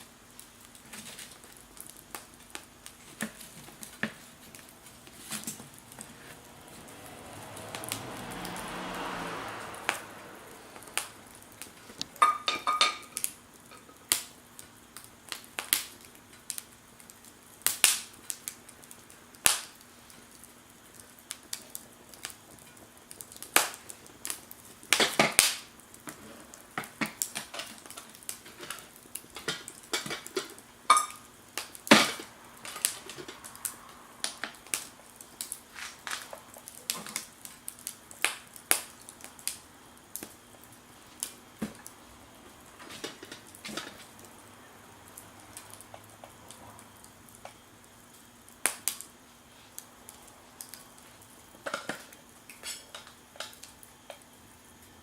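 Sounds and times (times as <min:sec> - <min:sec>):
fire hissing: 0:00.0 - 0:55.0
wood fire crackling: 0:00.0 - 0:55.0.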